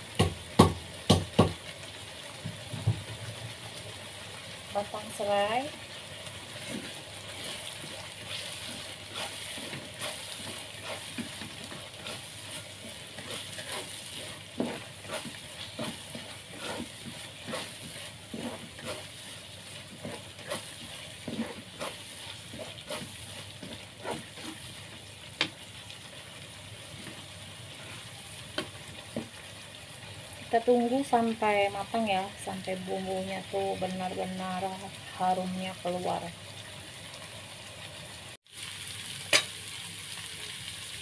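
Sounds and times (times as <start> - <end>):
spice paste sizzling in oil: 0.0 - 41.0.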